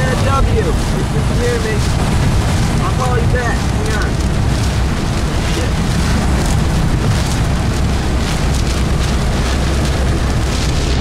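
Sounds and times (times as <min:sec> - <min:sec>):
car driving on highway: 0:00.0 - 0:11.0
wind buffeting microphone: 0:00.0 - 0:11.0.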